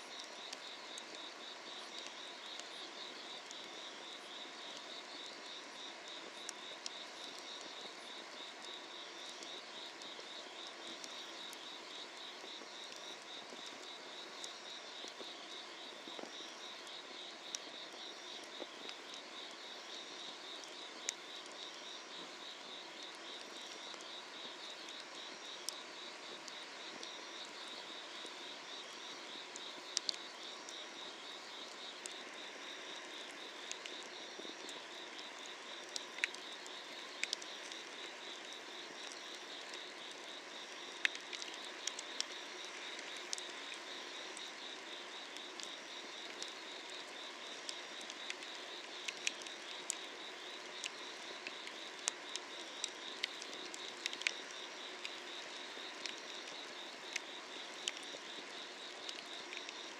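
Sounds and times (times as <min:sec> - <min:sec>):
insects chirping trill: 0:00.0 - 0:59.9
firewood crackling and popping: 0:01.9 - 0:15.4, 0:16.1 - 0:28.3, 0:28.9 - 0:30.8, 0:33.0 - 0:59.9.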